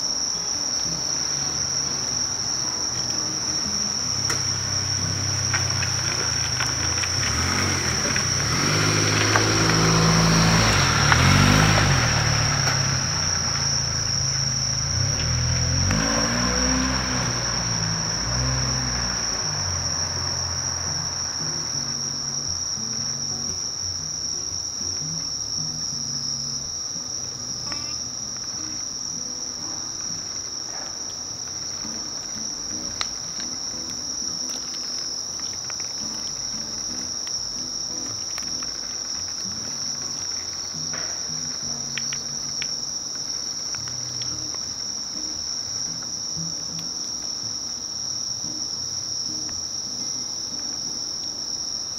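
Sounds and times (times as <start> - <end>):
high-pitched insect trill: 0.0 - 51.9.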